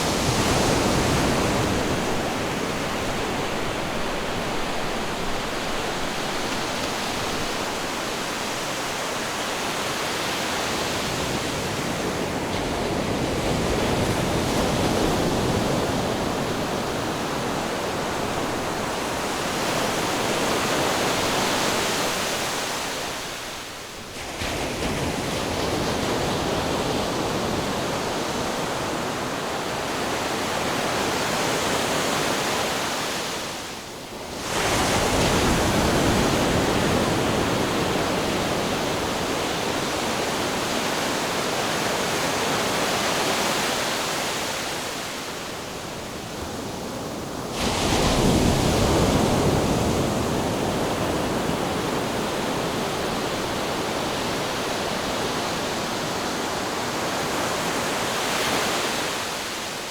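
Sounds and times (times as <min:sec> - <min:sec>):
ocean waves breaking: 0:00.0 - 0:23.4, 0:34.3 - 0:59.9.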